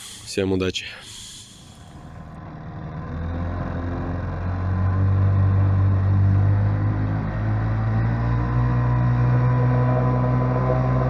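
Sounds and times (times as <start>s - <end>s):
outboard motor humming: 1.0s - 11.0s.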